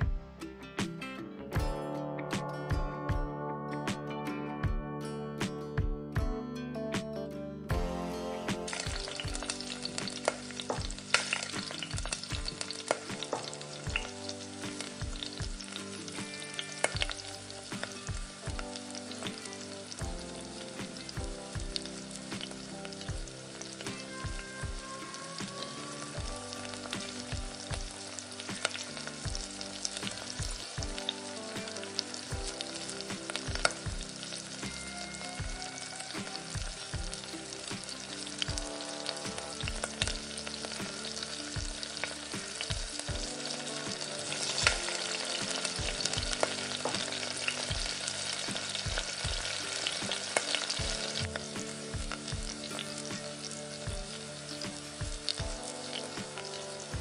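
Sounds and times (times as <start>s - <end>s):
spices sizzling in hot oil: 7.8s - 57.0s
crackles and pops: 8.5s - 57.0s.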